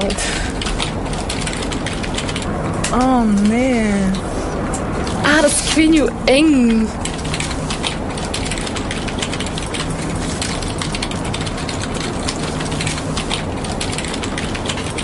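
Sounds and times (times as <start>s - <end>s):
rapid clicking and crackling: 0.0s - 15.0s.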